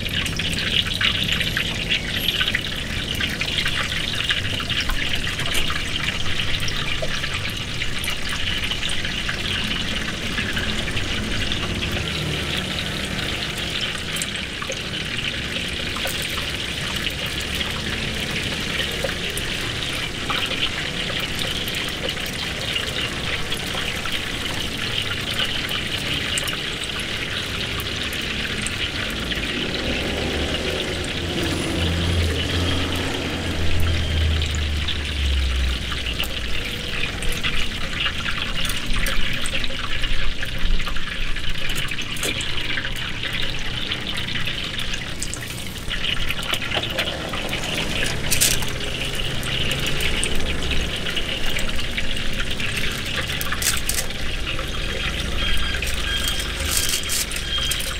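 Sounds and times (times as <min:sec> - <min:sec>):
oil sizzling and crackling: 0:00.0 - 0:57.9.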